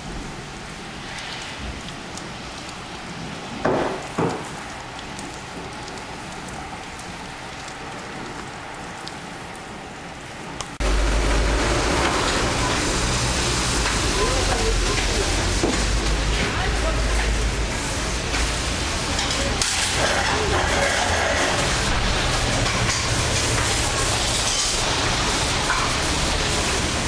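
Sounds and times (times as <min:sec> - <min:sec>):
steady rain hiss: 0:00.0 - 0:27.0
rain drop ticks: 0:01.0 - 0:09.8, 0:10.5 - 0:10.8, 0:12.0 - 0:20.5, 0:22.3 - 0:26.9.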